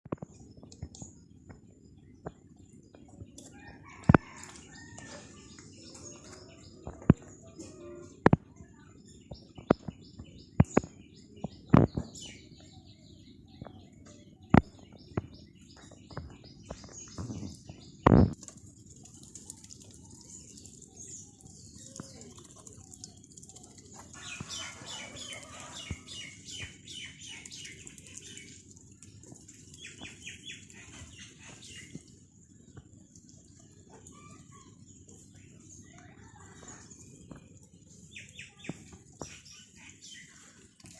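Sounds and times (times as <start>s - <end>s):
birds chirping: 0.1s - 40.9s.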